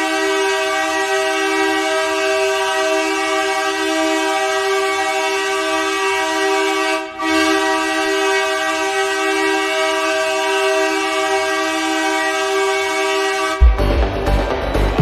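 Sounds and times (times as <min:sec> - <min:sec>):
air horn blast: 0:00.0 - 0:15.0.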